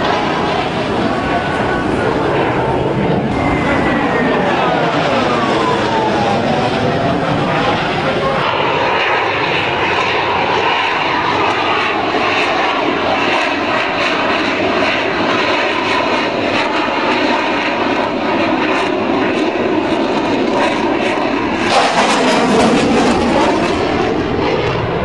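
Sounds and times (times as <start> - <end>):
fighter jet engine rush: 0.0 - 25.0.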